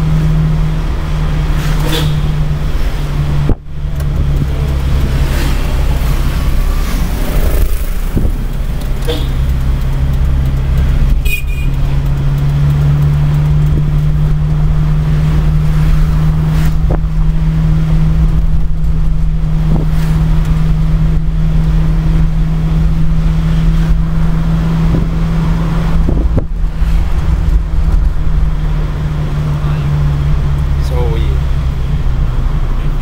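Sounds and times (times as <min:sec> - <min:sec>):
car engine drone: 0:00.0 - 0:33.0
road rumble: 0:00.0 - 0:33.0.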